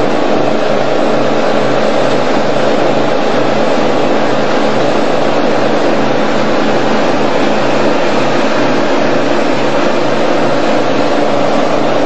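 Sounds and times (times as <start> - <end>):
boat engine running: 0.0 - 12.0
rushing water noise: 0.0 - 12.0.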